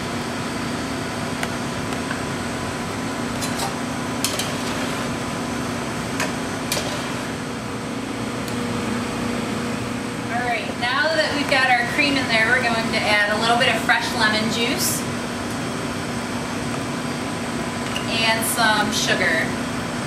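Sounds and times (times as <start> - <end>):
kitchen ventilation whirring: 0.0 - 20.0.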